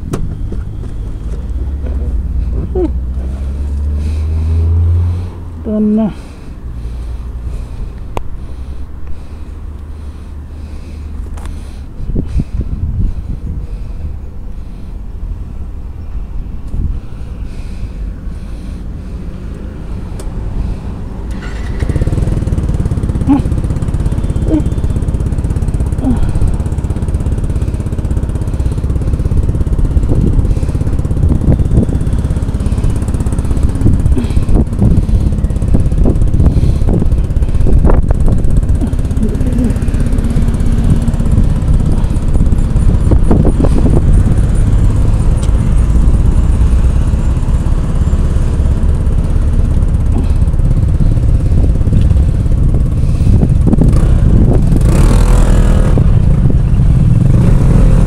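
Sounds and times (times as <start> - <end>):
scooter engine starting and running: 0.0 - 58.0.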